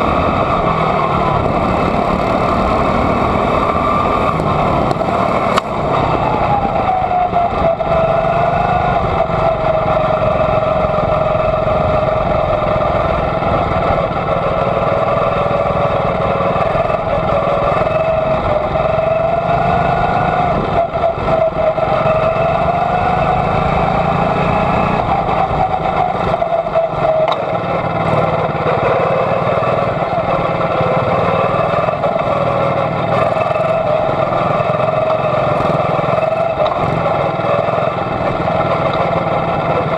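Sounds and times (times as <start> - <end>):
small racing engine running hard: 0.0 - 39.9.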